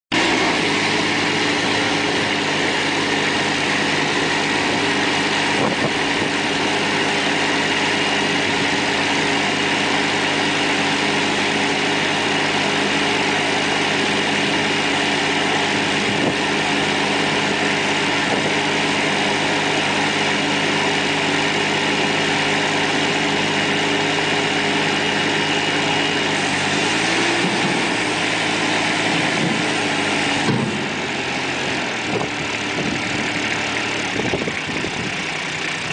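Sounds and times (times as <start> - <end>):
high whine: 0.1 - 35.9
truck engine running: 0.1 - 35.9.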